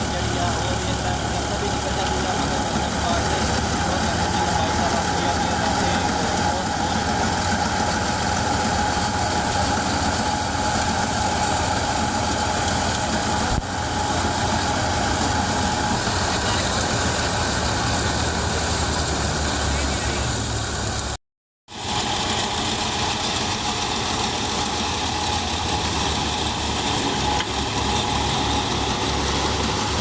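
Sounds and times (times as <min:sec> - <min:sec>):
tractor and thresher machine noise: 0:00.0 - 0:30.0.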